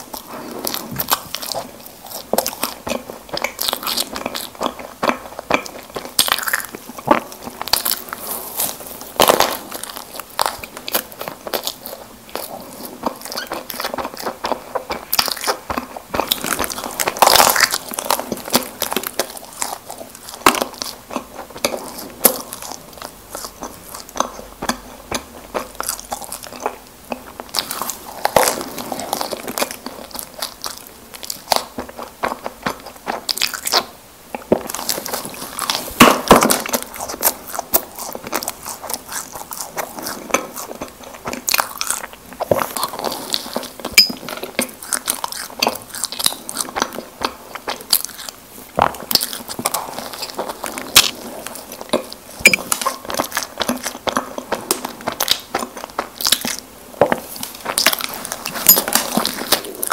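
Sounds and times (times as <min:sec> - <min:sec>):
biting and chewing: 0:00.0 - 0:59.9.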